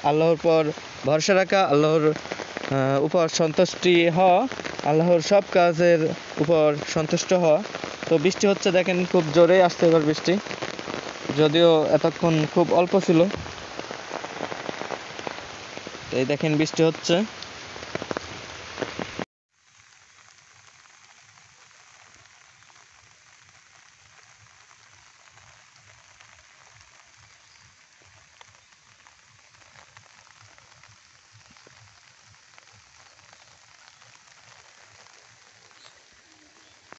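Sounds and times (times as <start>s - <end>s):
rain hiss: 0.0s - 36.9s
raindrop ticks: 0.9s - 19.2s, 19.9s - 36.9s.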